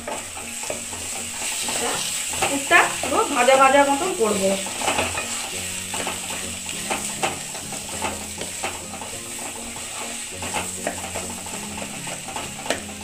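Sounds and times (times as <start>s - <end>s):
food sizzling in oil: 0.0s - 13.0s
spatula scraping a pan: 0.0s - 13.0s.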